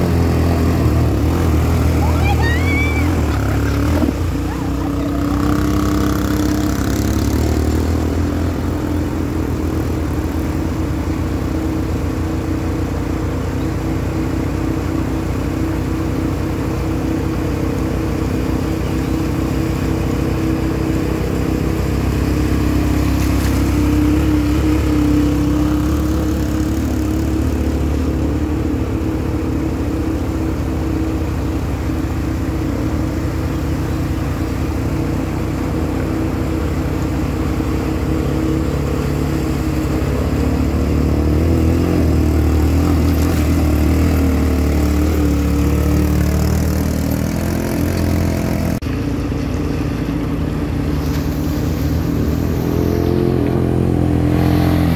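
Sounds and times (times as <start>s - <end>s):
quad engine revving: 0.0s - 10.6s, 18.3s - 48.8s, 50.7s - 54.9s.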